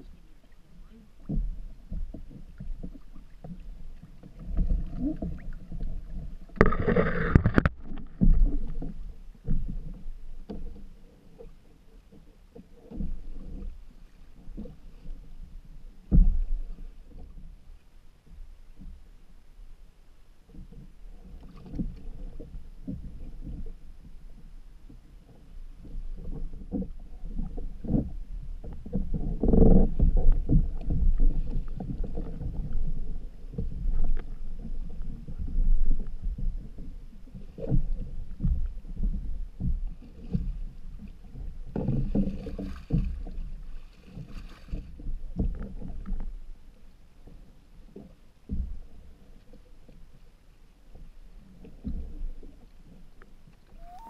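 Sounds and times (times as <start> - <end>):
water splashing against canoe: 0.0 - 19.7, 20.4 - 54.0.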